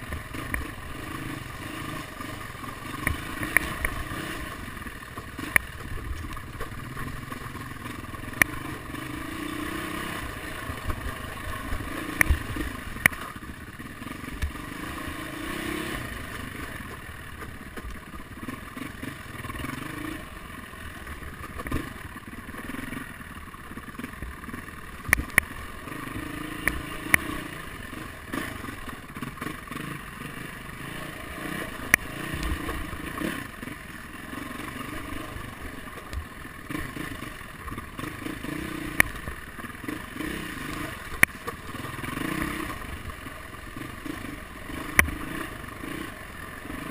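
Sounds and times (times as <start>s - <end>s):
dirt bike engine revving: 0.0s - 46.9s
knocks and clatter over rough ground: 0.0s - 46.9s.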